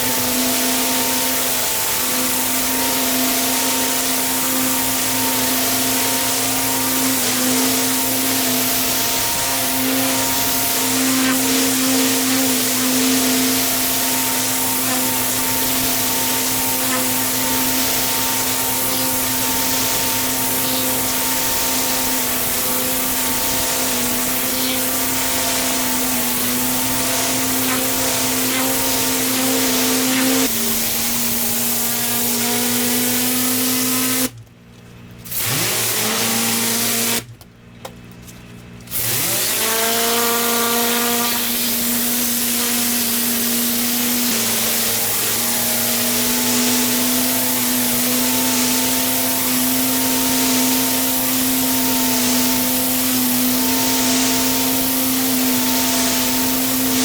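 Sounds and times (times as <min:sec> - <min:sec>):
water spray hissing: 0:00.0 - 0:32.7, 0:39.8 - 0:57.0
pressure washer motor hum: 0:00.0 - 0:34.3, 0:38.9 - 0:57.0.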